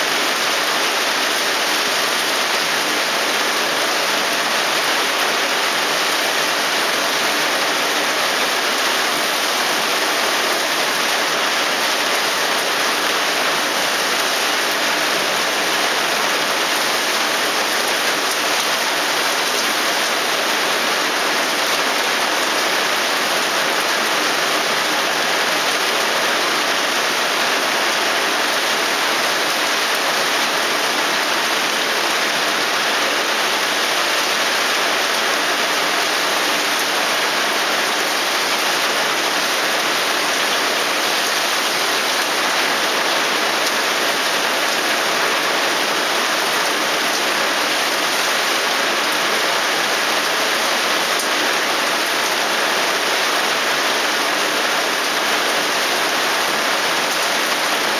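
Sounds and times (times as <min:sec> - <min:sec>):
heavy rain on leaves: 0:00.0 - 0:57.9.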